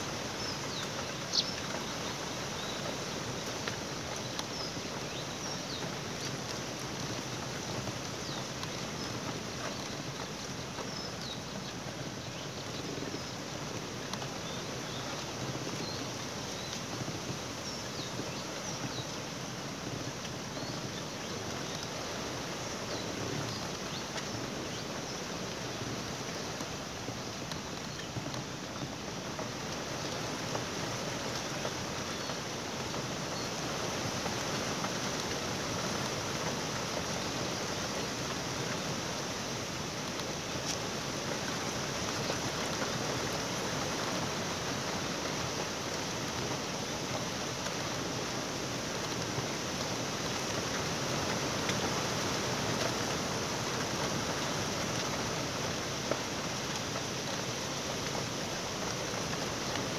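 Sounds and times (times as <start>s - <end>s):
wind hiss: 0.0s - 59.9s.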